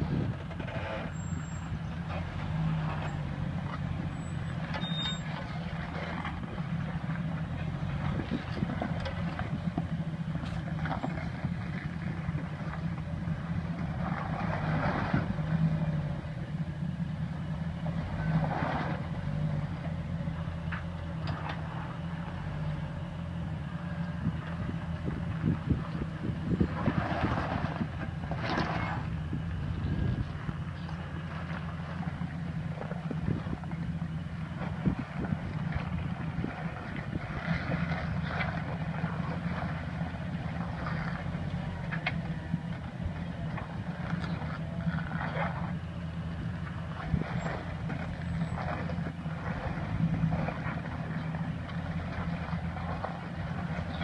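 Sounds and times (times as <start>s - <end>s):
engine running at low revs: 0.0s - 54.0s.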